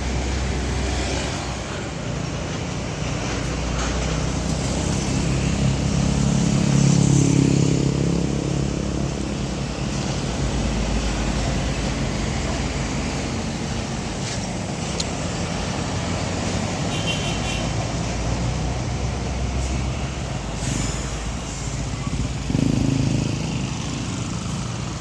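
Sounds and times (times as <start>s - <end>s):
heavy truck engine passing: 0.0s - 25.0s
road traffic noise: 0.0s - 25.0s.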